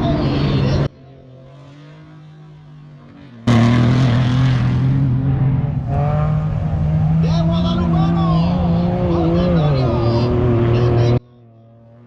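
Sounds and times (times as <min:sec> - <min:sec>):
race vehicle engine droning: 0:00.0 - 0:12.0.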